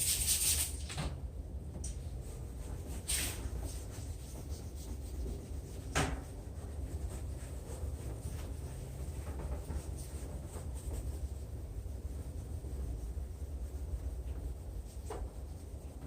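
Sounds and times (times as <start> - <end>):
low steady hum: 0.8 - 16.0.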